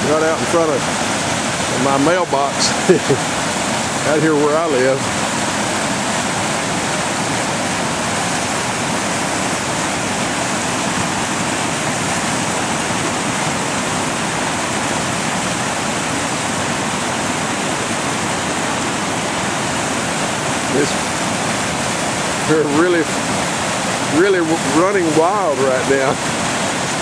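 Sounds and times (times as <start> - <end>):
floodwater rushing: 0.0 - 27.0.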